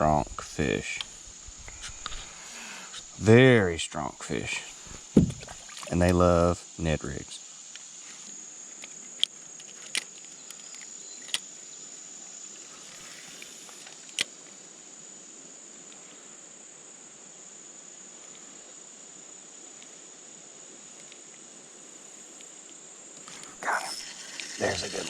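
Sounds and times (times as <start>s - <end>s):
insects singing: 0.0s - 25.0s.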